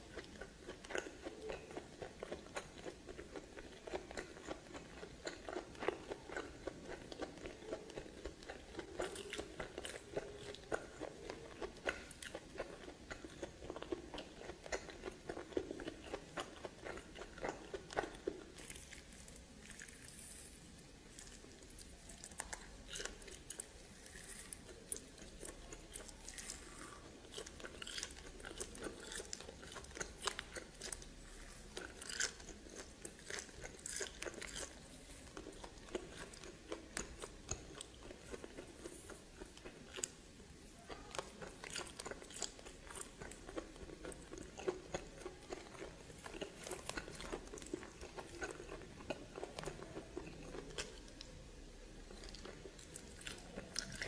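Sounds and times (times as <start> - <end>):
close chewing and biting: 0.0 - 51.4, 52.0 - 54.0.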